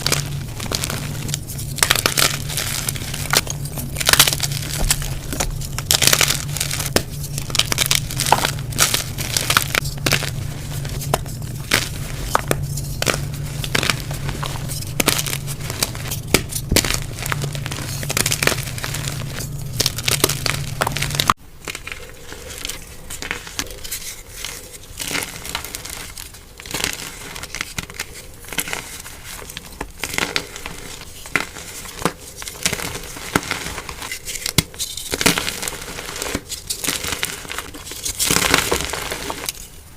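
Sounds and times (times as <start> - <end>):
background hum: 0.0 - 39.9
chalk crunching and crackling: 0.0 - 39.9.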